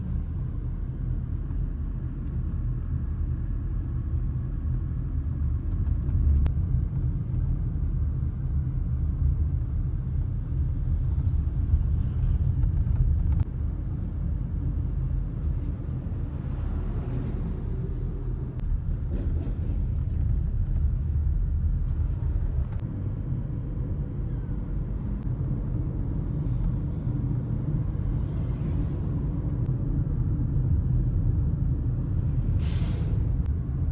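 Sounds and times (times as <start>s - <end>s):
heavy truck traffic rumble: 0.0s - 33.9s.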